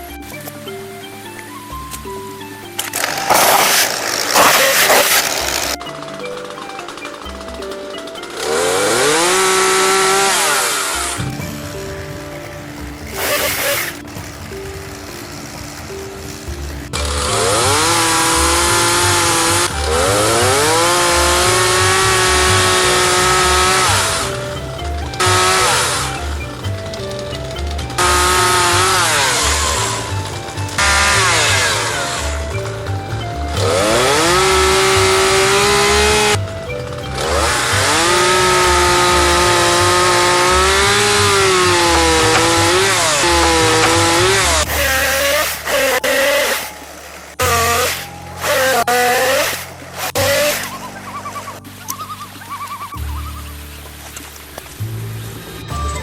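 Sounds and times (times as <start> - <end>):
chainsaw revving: 2.8 - 11.9, 12.8 - 51.9.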